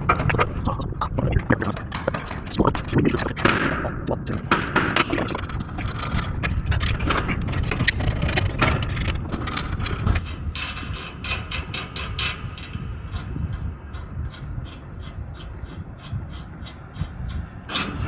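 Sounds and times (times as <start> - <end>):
hardware clicks and rattles: 0.0 - 18.0
steady low rumble: 0.0 - 18.0.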